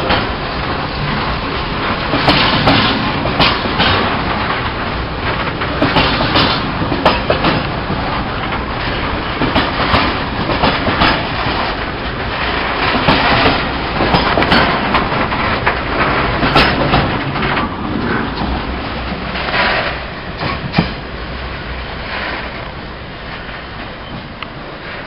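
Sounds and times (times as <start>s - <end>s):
train wheels rumbling on rail: 0.0s - 25.0s
wheels clicking over rail joints: 0.0s - 25.0s.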